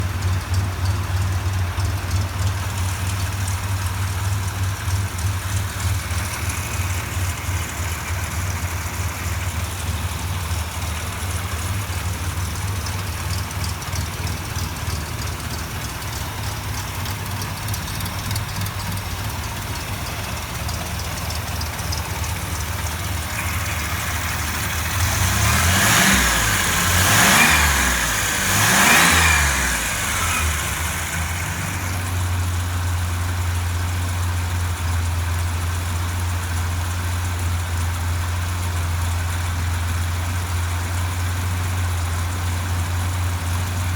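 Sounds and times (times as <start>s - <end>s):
boat engine idling and revving: 0.0s - 43.9s.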